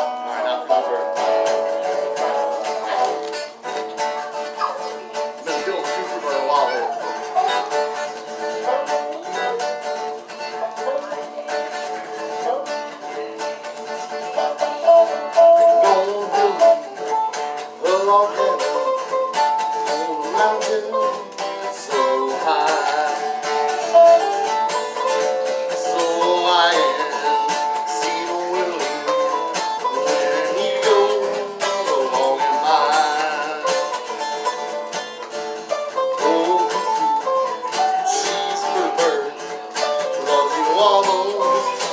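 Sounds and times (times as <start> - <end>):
acoustic guitar strumming: 0.0 - 41.9
banjo plucked melody: 0.0 - 41.9.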